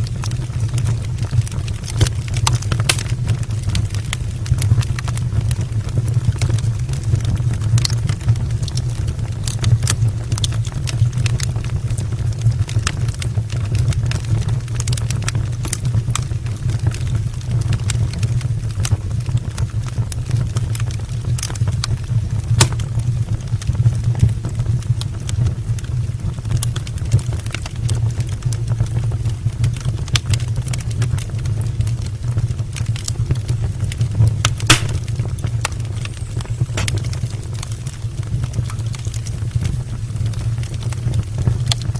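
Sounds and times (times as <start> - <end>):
flames roaring: 0.0 - 24.3, 28.2 - 41.9
logs crackling and popping: 0.0 - 41.9.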